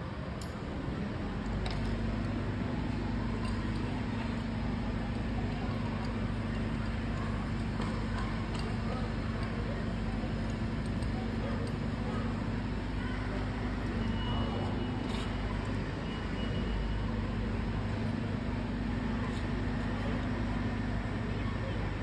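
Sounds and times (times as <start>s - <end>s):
noisy hall rumble: 0.0s - 22.0s.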